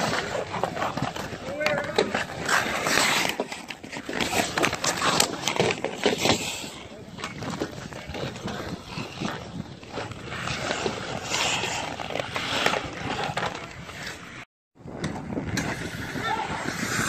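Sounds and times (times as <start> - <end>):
hockey sticks and puck knocking: 0.0 - 14.4
skate blades scraping ice: 0.0 - 17.0.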